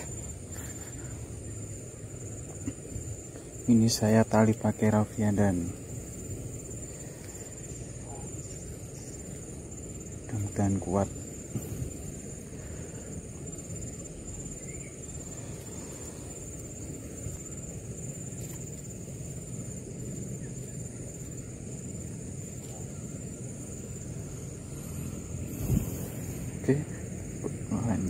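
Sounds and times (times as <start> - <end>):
insect chirring: 0.0 - 28.0
low rumbling background noise: 0.0 - 28.0.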